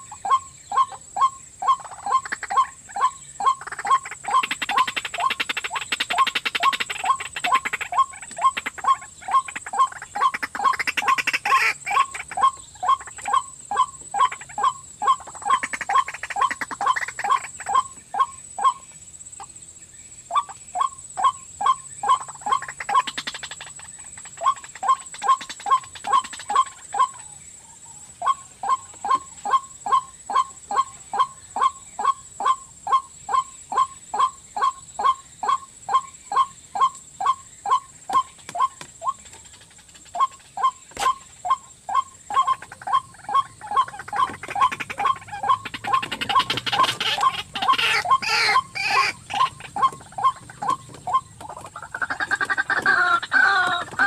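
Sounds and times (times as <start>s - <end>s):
waterhen calling: 0.0s - 18.9s, 20.3s - 54.0s.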